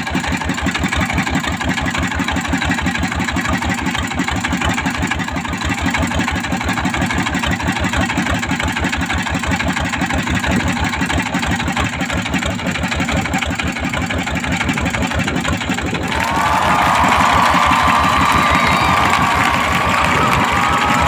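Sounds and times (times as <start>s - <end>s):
boat engine idling: 0.0s - 21.0s.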